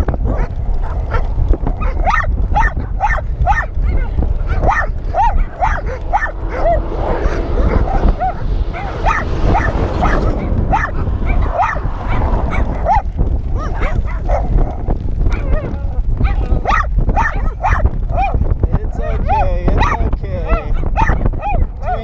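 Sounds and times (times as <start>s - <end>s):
low rumble: 0.0s - 22.0s
dogs yipping and whining: 0.2s - 18.4s, 20.7s - 22.0s.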